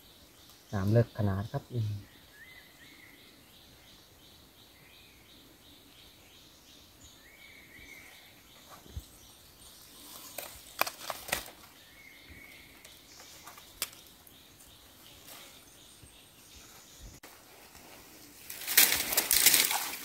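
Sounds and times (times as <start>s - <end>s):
faint birds chirping: 0.0s - 20.0s
insects chirping: 0.0s - 20.0s.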